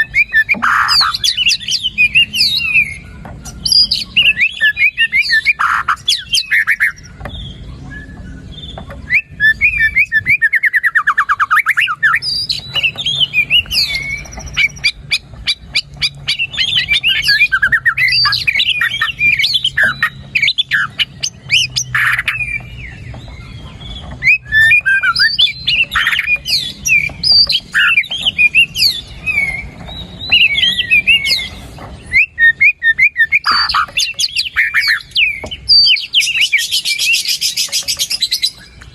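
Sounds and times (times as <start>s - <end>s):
bird singing whistled song: 0.0s - 38.9s.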